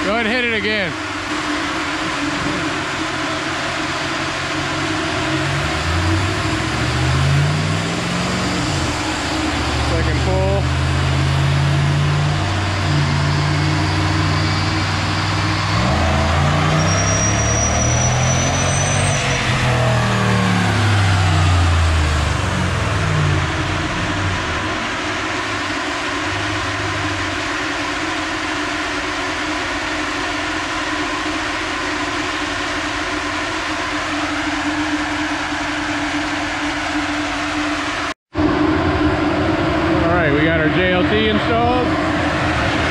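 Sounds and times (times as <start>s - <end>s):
engine revving on dyno: 0.0s - 42.9s.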